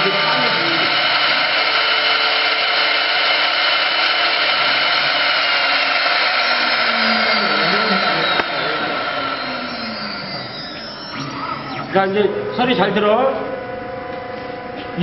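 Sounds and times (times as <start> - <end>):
lathe motor whine: 0.0 - 15.0.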